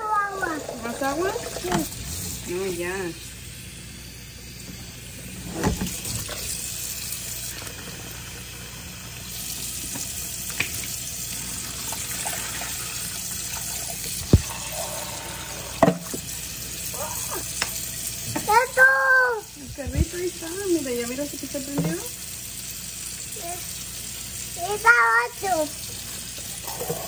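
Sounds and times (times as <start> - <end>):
tap water running into sink: 0.0 - 3.5, 4.5 - 27.0.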